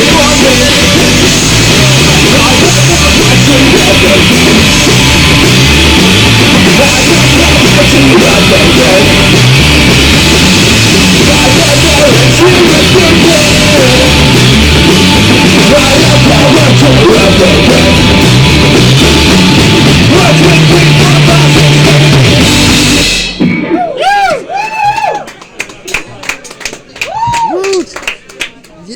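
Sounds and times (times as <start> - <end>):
live rock band playing: 0.0 - 23.8.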